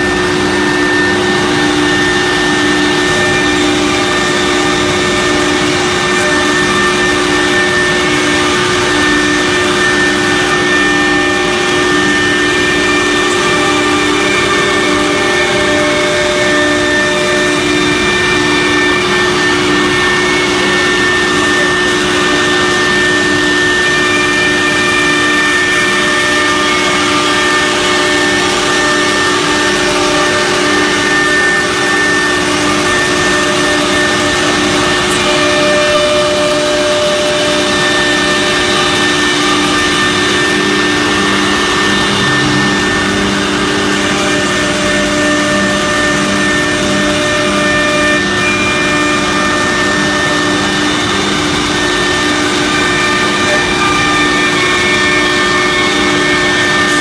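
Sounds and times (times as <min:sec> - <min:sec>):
cnc router spindle cutting: 0:00.0 - 0:57.0
high machine whine: 0:00.0 - 0:57.0.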